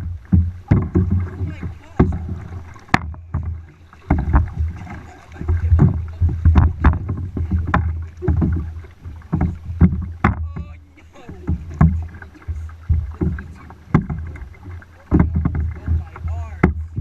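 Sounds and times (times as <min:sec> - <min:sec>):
low rumble: 0:00.0 - 0:17.0
paddle splashes and knocks: 0:00.0 - 0:17.0.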